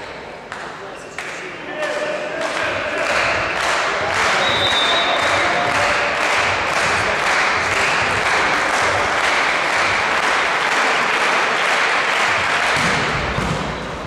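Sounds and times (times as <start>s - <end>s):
crowd noise: 0.0s - 14.0s
spectators clapping in rhythm: 0.4s - 14.0s.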